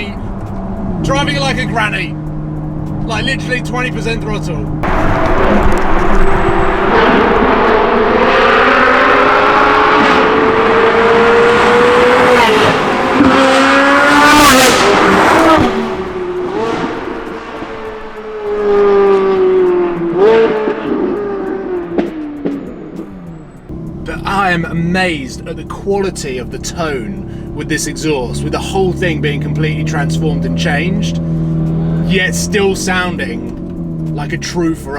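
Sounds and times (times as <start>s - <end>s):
sports car engine accelerating: 0.0s - 34.9s.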